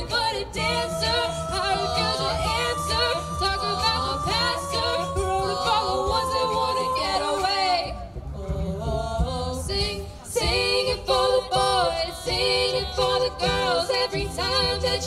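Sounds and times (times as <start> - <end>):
vocal group singing a cappella: 0.0 - 15.0.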